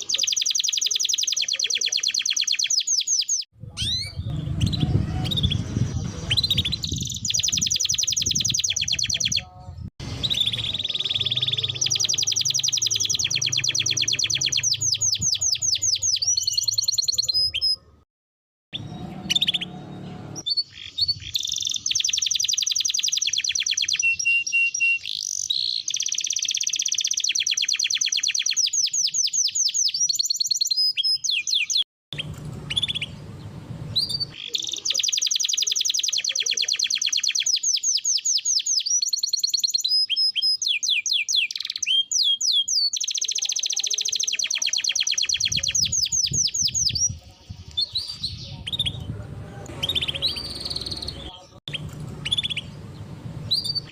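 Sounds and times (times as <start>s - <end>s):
canary singing trills: 0.0s - 18.0s, 18.7s - 53.9s.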